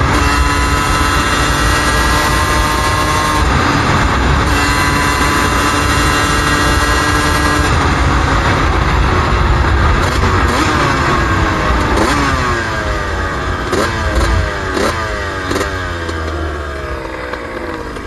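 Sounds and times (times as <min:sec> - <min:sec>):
two-stroke motorbike engine: 0:00.0 - 0:18.0.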